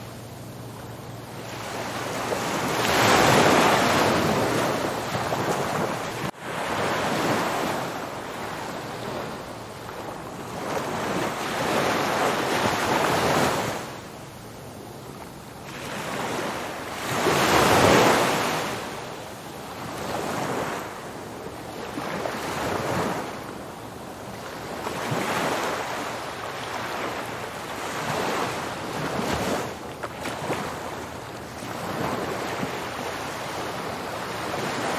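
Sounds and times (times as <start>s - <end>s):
ocean waves breaking: 0.0s - 14.1s, 15.3s - 34.9s.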